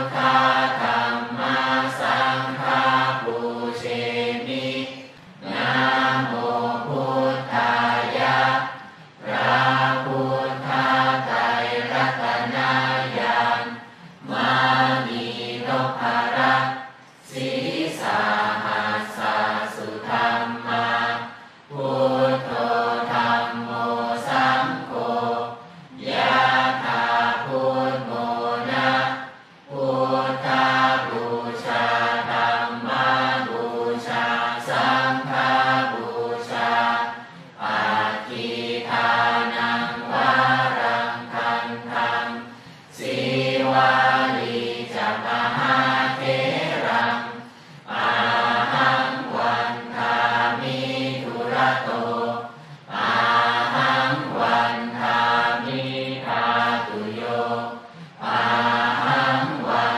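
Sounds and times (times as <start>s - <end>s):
group chanting in unison: 0.0s - 59.9s.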